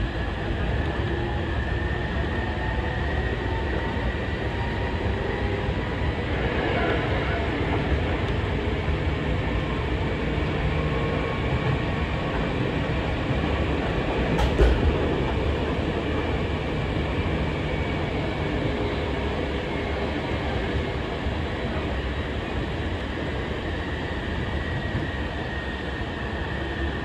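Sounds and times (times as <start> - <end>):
electric train running on track: 0.0 - 27.0.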